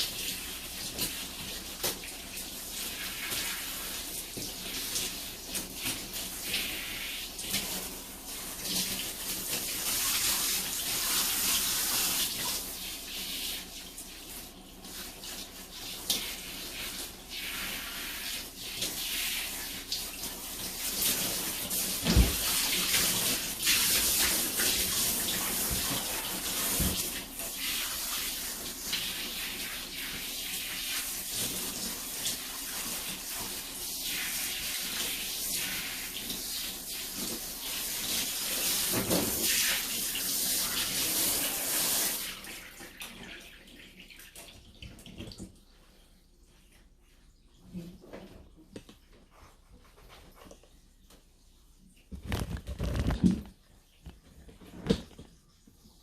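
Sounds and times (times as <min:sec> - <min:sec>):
running water splashing: 0:00.0 - 0:47.2.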